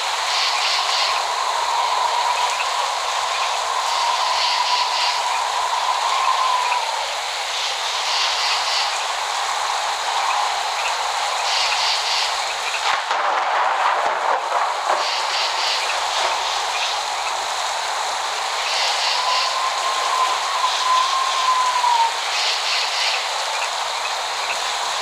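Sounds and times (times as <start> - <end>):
steady downpour of rain: 0.0 - 25.0.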